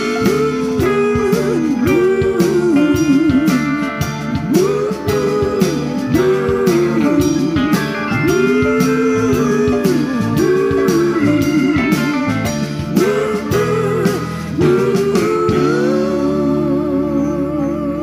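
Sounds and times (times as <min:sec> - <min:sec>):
lead guitar bending notes: 0:00.0 - 0:18.0
live band playing: 0:00.0 - 0:18.0.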